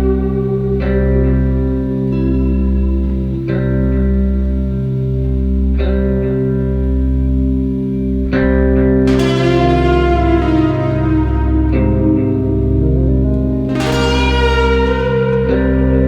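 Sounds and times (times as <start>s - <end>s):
plucked guitar chords with bass: 0.0s - 16.0s.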